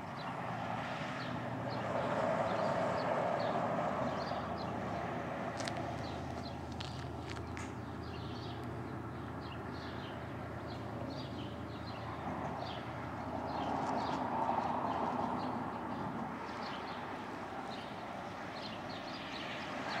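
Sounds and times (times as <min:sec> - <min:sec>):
small birds chirping: 0:01.2 - 0:20.0.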